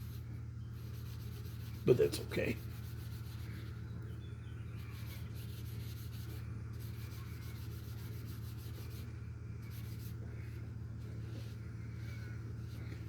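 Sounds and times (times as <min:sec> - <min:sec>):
soft rubbing on wood: 0:00.0 - 0:04.0, 0:04.7 - 0:13.0
steady low hum: 0:00.0 - 0:13.0.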